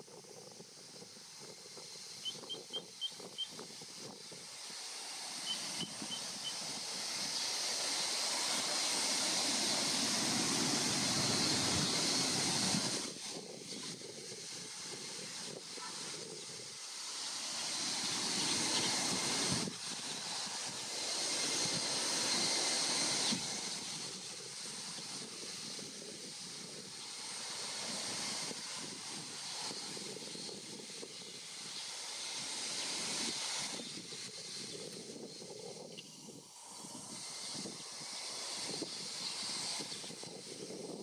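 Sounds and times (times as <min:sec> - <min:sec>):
wind buffeting microphone: 0:00.0 - 0:16.8, 0:17.8 - 0:31.8, 0:32.9 - 0:41.0.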